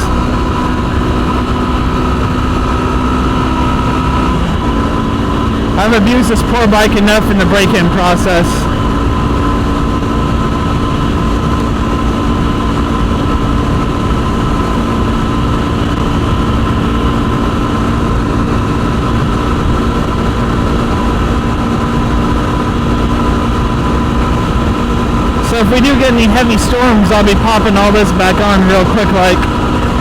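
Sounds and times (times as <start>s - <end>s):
motorcycle engine cruising: 0.0s - 30.0s
wind and road noise: 0.0s - 30.0s.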